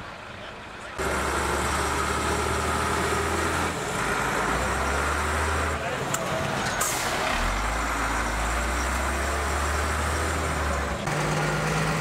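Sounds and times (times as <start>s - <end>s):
truck diesel engines droning: 0.0s - 12.0s.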